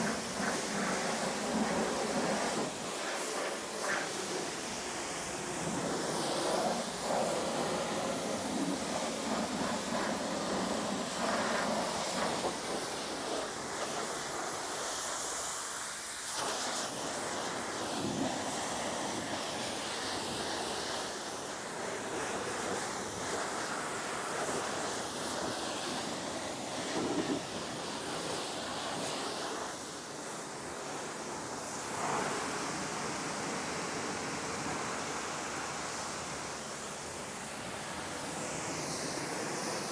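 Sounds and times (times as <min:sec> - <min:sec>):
pressure washer spraying water: 0:00.0 - 0:32.8, 0:38.3 - 0:39.9.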